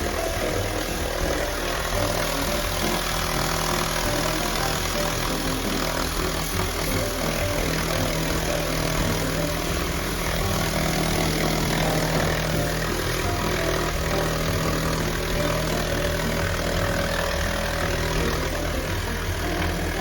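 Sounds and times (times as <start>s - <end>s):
even hiss: 0.0s - 20.0s
machine motor humming: 0.0s - 20.0s.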